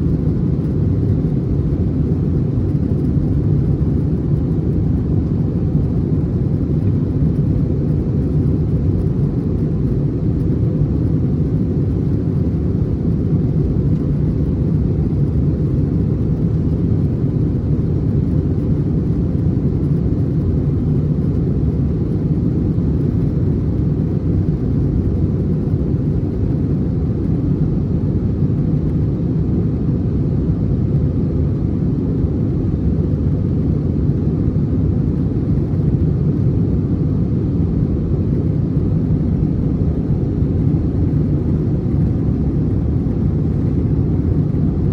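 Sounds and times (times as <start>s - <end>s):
airplane engine rumble in cabin: 0.0s - 44.9s.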